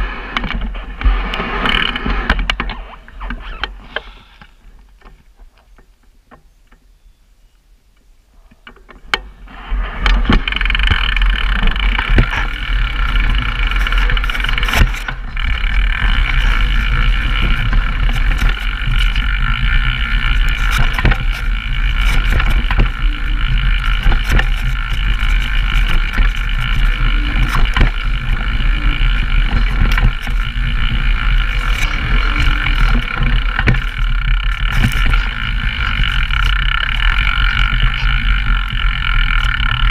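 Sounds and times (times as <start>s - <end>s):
bike rattles and knocks: 0.2s - 4.1s, 8.5s - 39.9s.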